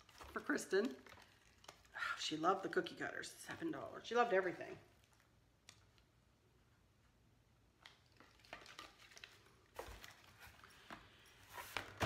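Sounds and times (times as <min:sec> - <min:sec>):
faint clicks and rustles of handling: 0:00.0 - 0:12.0.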